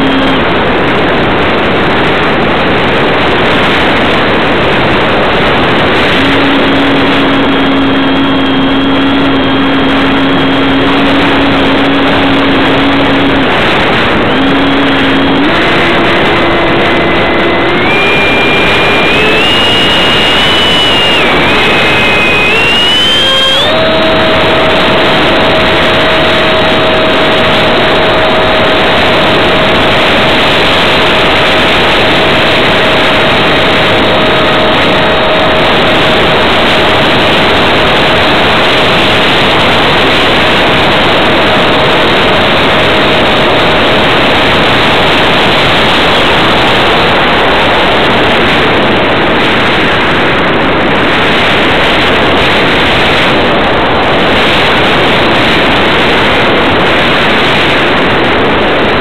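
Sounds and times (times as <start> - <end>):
electric ducted fan whine: 0.0 - 59.0
wind rushing: 0.0 - 59.0.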